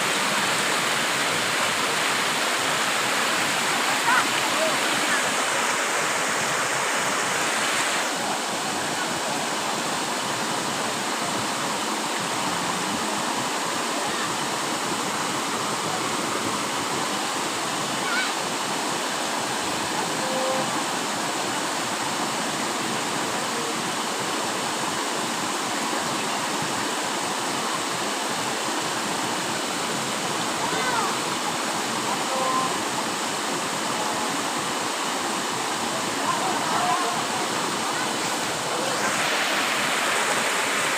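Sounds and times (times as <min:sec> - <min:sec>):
waterfall pouring into pool: 0:00.0 - 0:40.9.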